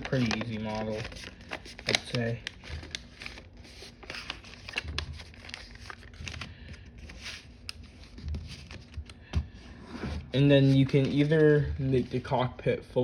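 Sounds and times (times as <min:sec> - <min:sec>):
paper rustling and crinkling: 0:00.0 - 0:12.4.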